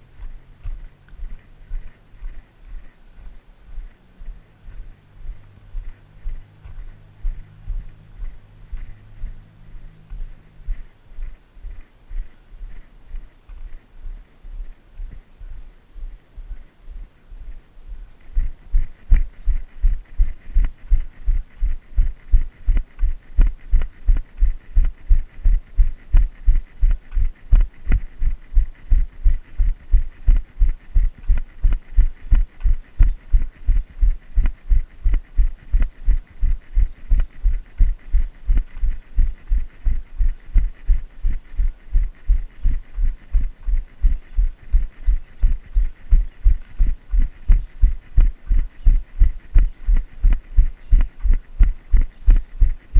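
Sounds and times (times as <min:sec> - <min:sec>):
running footfalls on a trail: 0:00.0 - 0:52.9.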